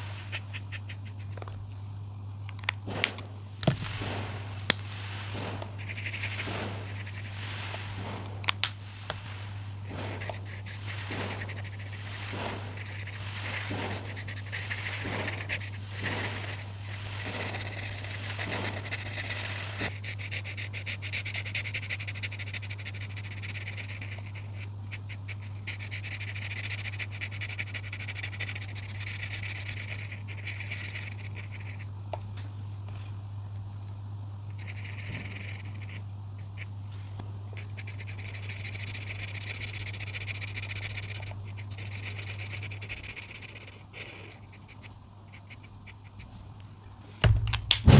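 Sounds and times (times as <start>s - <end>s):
coloring tool scratching paper: 0.0s - 1.7s, 3.9s - 31.9s, 34.5s - 36.8s, 37.6s - 46.3s
steady low hum: 0.0s - 47.9s.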